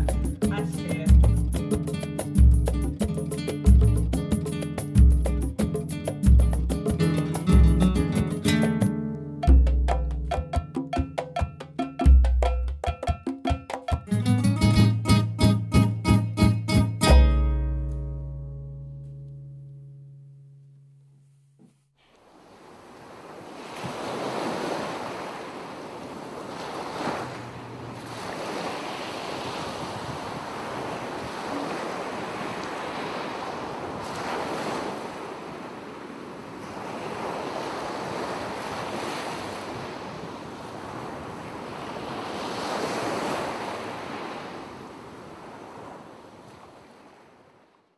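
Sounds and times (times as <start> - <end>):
ocean waves washing: 0.0 - 18.4, 22.0 - 47.7.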